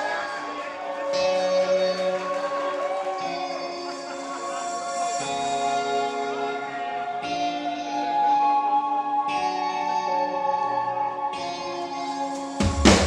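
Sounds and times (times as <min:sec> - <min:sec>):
ringing electric guitar chords: 0:00.0 - 0:12.8.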